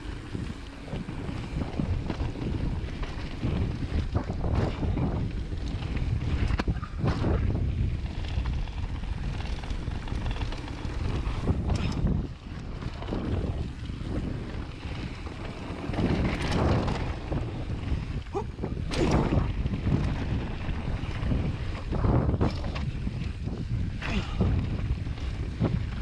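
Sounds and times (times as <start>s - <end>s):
bike rattling over bumps: 0.0s - 26.0s
wind on camera microphone: 0.0s - 26.0s.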